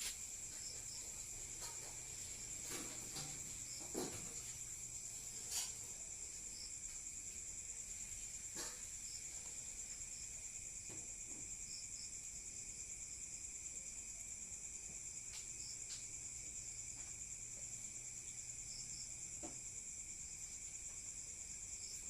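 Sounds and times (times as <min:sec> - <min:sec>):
insects chorus: 0:00.0 - 0:22.0.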